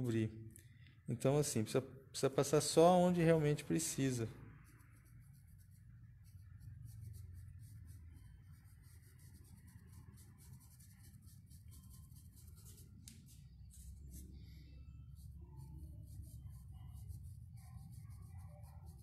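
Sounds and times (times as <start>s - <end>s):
low steady hum: 0.0s - 19.0s
paintbrush scratching on wood: 3.2s - 19.0s.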